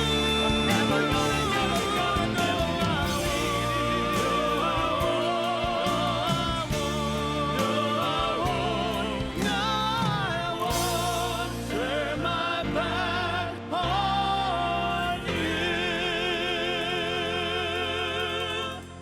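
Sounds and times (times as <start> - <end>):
person singing with vibrato: 0.0 - 19.0
sustained instrumental accompaniment: 0.0 - 19.0.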